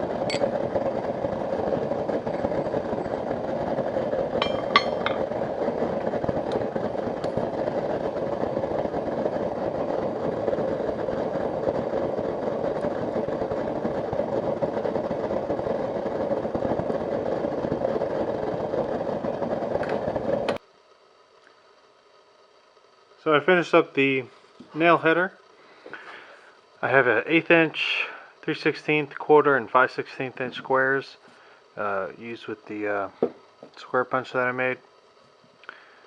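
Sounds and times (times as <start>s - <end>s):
blacksmith shop equipment roar: 0.0s - 20.6s, 23.2s - 36.0s.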